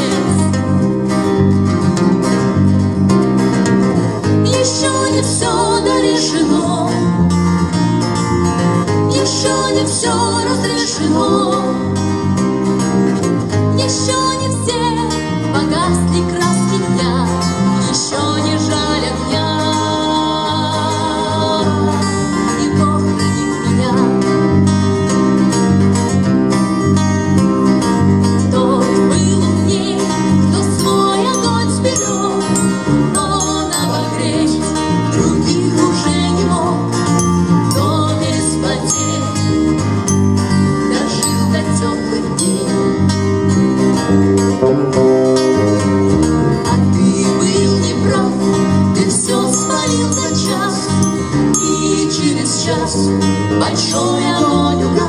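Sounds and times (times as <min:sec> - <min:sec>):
band music with guitar: 0:00.0 - 0:55.0.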